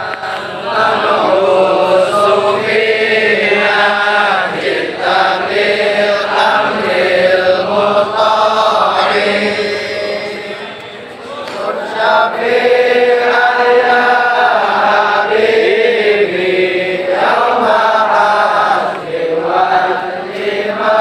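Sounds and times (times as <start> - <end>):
voices chanting slowly: 0.0 - 21.0.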